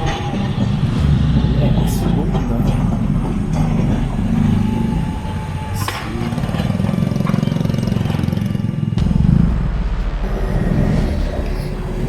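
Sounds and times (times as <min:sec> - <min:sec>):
streetcar rumble: 0:00.0 - 0:12.0.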